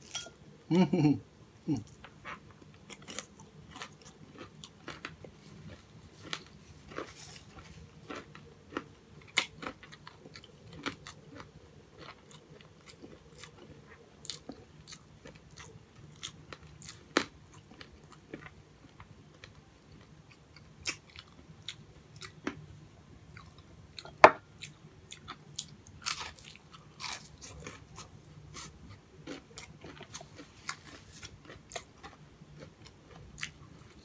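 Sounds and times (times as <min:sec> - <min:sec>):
crunching fried food: 0:01.9 - 0:22.7, 0:23.3 - 0:34.0.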